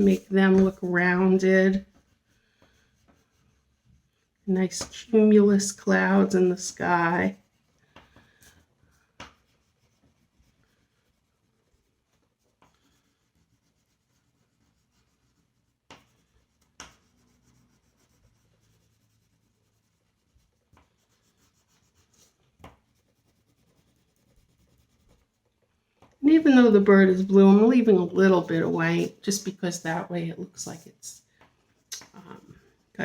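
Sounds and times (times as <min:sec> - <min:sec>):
coloring strokes scratching on paper: 0:00.0 - 0:25.7, 0:26.3 - 0:33.0.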